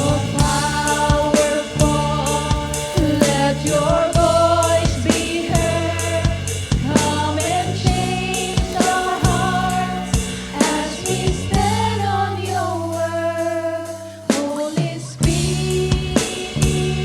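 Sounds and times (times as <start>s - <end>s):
drum kit beat: 0.0s - 17.0s
sustained band accompaniment: 0.0s - 17.0s.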